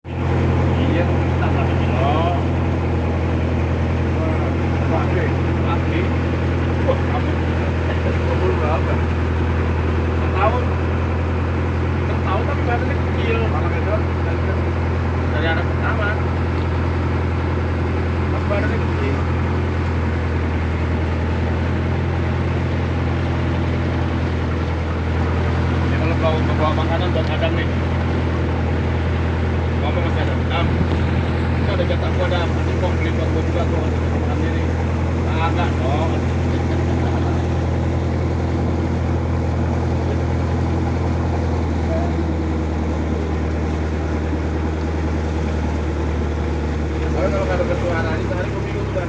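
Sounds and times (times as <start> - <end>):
boat engine drone: 0.0 - 49.0.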